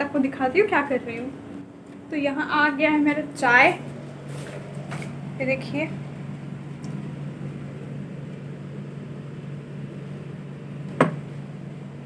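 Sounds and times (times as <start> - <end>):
low machine hum with hiss: 0.0 - 12.0.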